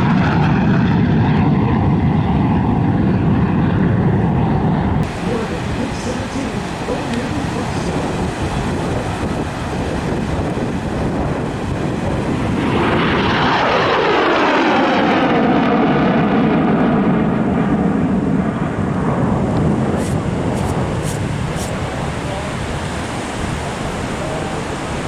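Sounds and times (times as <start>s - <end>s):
airplane flying past: 0.0s - 25.0s.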